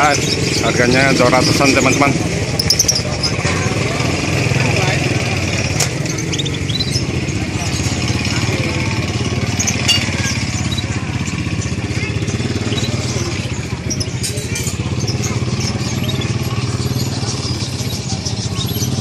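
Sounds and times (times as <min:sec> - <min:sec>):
engine running: 0:00.0 - 0:19.0
songbirds chirping: 0:00.0 - 0:19.0.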